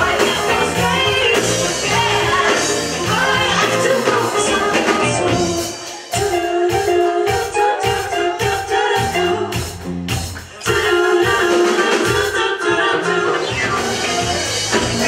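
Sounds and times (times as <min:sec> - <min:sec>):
women singing: 0:00.0 - 0:09.8, 0:10.4 - 0:15.0
live rock band playing: 0:00.0 - 0:15.0.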